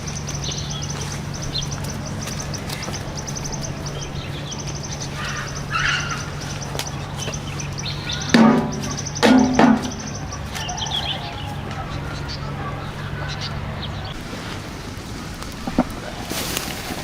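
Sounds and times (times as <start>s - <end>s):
fast high bird trill: 0.0s - 14.2s
birds chirping: 0.0s - 17.0s
steady low hum: 0.0s - 17.0s.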